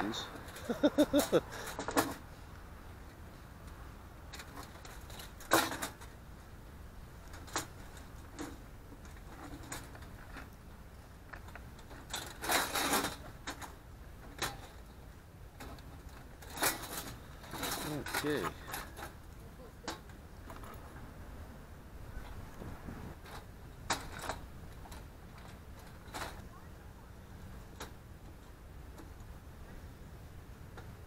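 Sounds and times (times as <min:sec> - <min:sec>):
low steady background rumble: 0:00.0 - 0:31.0.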